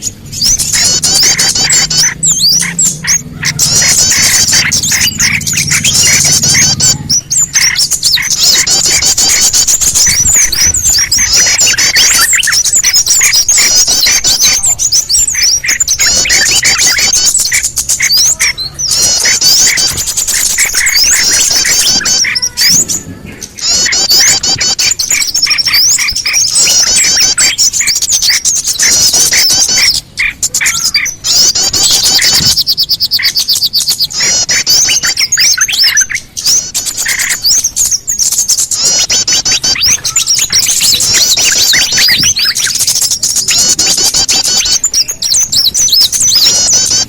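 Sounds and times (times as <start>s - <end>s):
lower repeated bird notes: 0.0s - 47.0s
small songbirds chirping: 0.0s - 47.0s.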